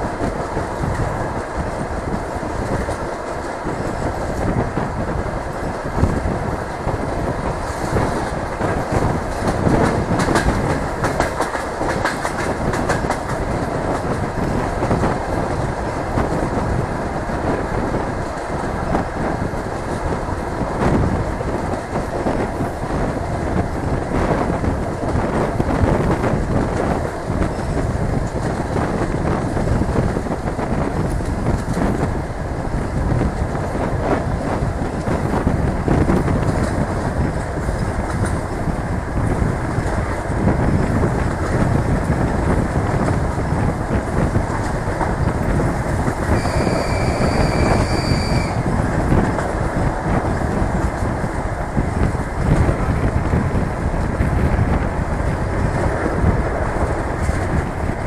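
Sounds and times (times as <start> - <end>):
train wheels rumbling: 0.0 - 58.0.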